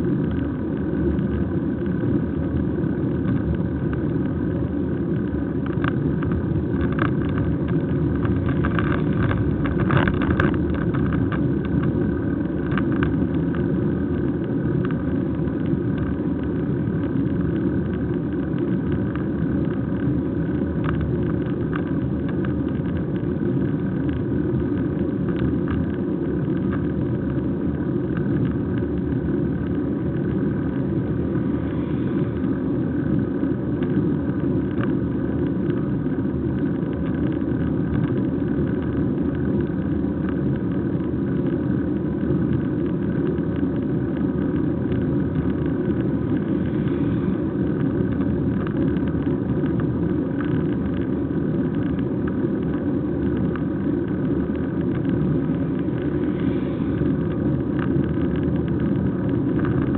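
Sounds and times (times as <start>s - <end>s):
bicycle tyres on tarmac: 0.0s - 59.9s
faint whining tones: 0.0s - 59.9s
rushing wind: 0.0s - 59.9s.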